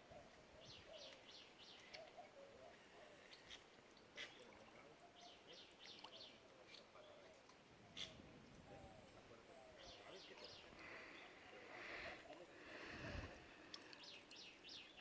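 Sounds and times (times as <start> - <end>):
faint birdsong chirps: 0.0 - 15.0.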